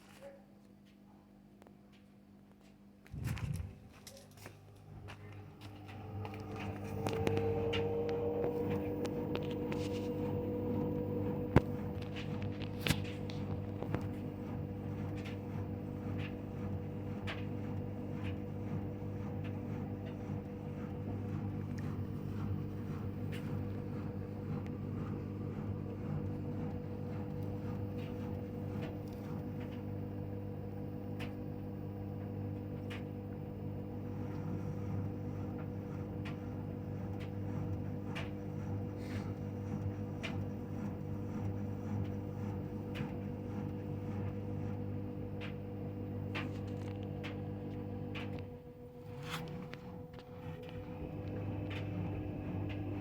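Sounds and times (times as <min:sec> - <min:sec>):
washing machine spinning: 0:03.0 - 0:53.0.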